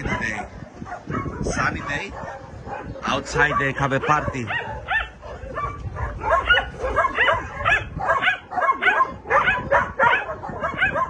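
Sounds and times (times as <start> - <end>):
dogs barking and yipping: 0.0 - 11.0
wind rumbling on microphone: 0.0 - 11.0.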